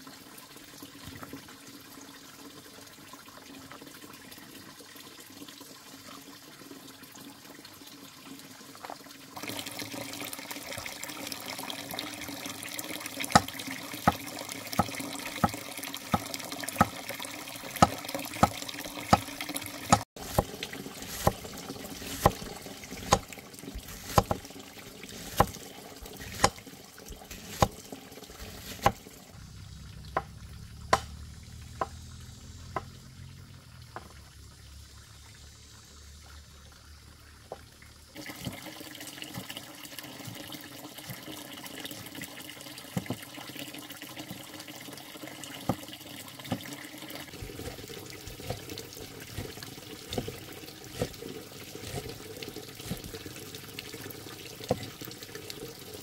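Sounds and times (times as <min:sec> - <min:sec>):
water running from a tap: 0:00.0 - 0:35.4, 0:36.6 - 0:56.0.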